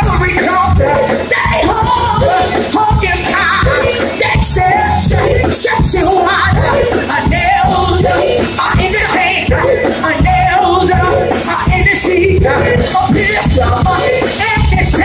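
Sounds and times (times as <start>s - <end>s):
drum and bass beat: 0.0s - 15.0s
gospel voices singing: 0.0s - 15.0s.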